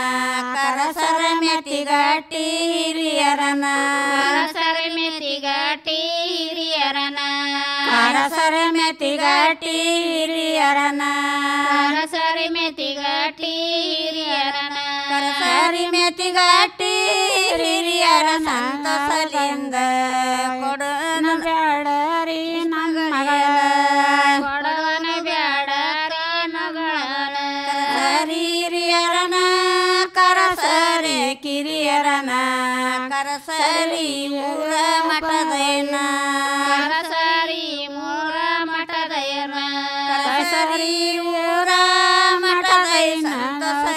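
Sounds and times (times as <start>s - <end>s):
women singing folk song: 0.0s - 43.9s.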